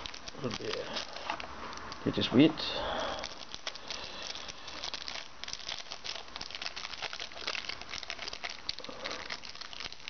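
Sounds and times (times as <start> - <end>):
wrapper crinkling and tearing: 0.0 - 2.3, 3.1 - 10.0.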